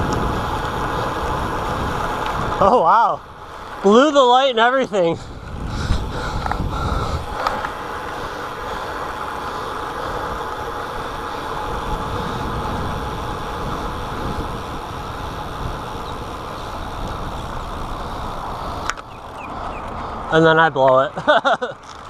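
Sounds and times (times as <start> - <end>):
wind rushing: 0.0 - 20.4
bicycle road noise: 0.0 - 22.0.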